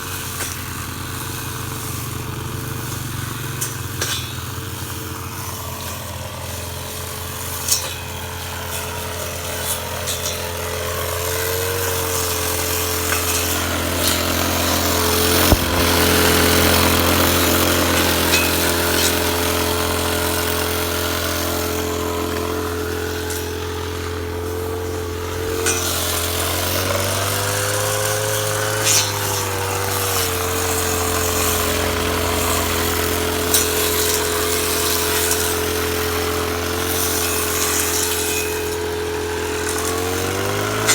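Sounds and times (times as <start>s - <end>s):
brush cutter engine running: 0.0s - 40.9s.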